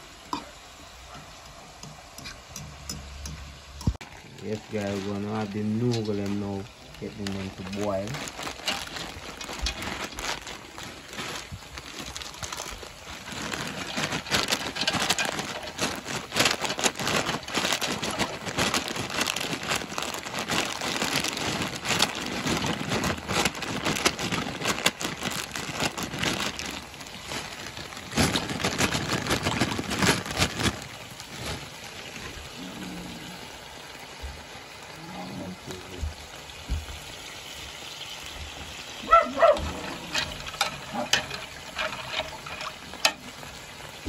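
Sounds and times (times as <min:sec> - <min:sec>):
chicken frying in a pan: 0:00.0 - 0:25.6, 0:26.7 - 0:28.3, 0:30.8 - 0:44.0
pot of water boiling: 0:00.0 - 0:44.0.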